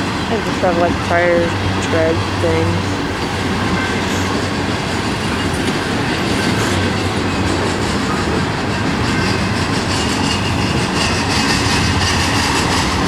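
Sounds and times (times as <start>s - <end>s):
freight train rolling past: 0.0s - 13.0s
wheels clacking over rail joints: 0.0s - 13.0s.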